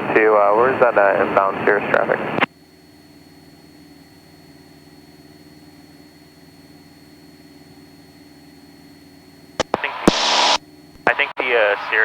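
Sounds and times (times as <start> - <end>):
faint propeller plane drone: 0.0 - 12.0.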